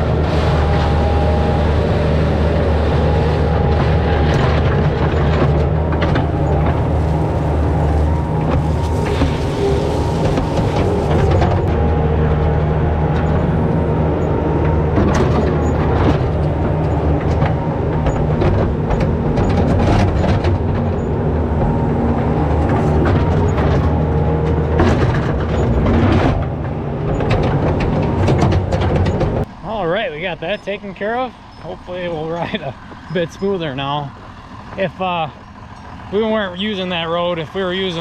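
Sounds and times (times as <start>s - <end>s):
skid steer engine running: 0.0s - 38.0s.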